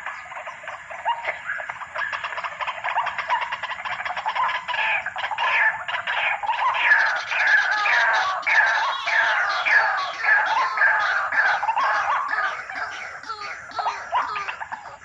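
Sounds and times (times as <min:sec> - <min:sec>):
waterhen calling harsh notes: 0:00.0 - 0:15.0.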